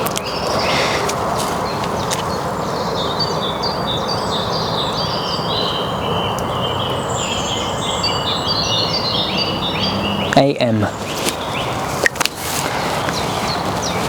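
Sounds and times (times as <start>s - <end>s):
birds chirping: 0.0s - 14.0s
steady background hiss: 0.0s - 14.0s.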